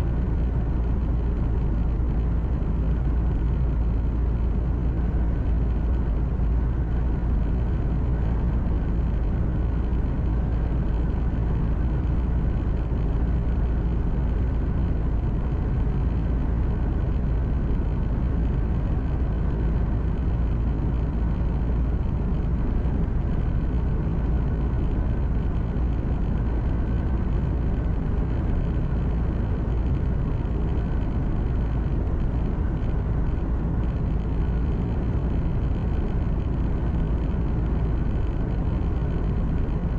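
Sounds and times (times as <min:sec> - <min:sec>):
truck engine and tyre drone: 0:00.0 - 0:39.9.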